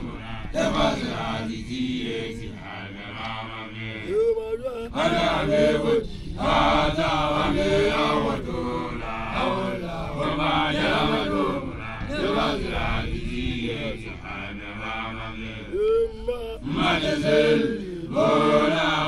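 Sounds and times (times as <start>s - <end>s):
men chanting a song: 0.0s - 19.0s.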